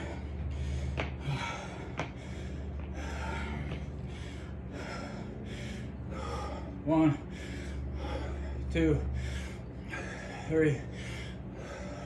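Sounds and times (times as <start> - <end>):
man panting heavily: 0.0 - 12.0.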